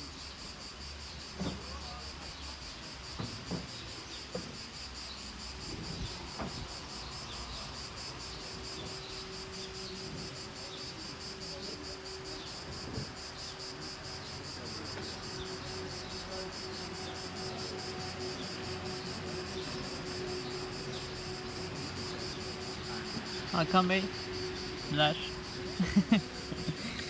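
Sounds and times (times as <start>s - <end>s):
insects trilling: 0.0s - 27.0s.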